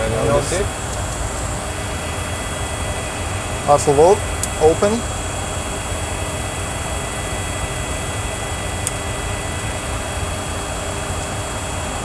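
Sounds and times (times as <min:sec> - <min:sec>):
faint steady tones: 0:00.0 - 0:12.0
low engine hum and hiss: 0:00.0 - 0:12.0.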